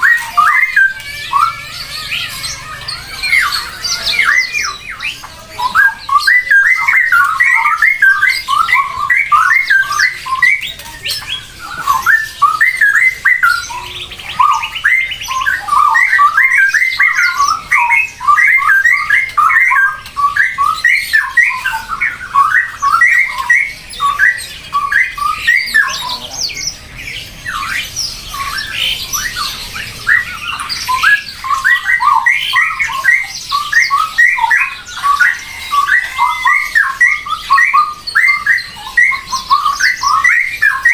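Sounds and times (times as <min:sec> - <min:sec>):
flock of birds squawking: 0:00.0 - 0:40.9.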